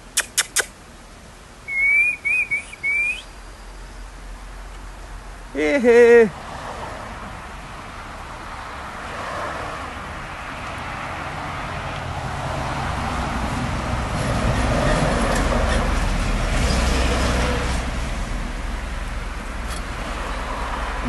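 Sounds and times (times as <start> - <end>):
truck passing on road: 1.7 - 21.0.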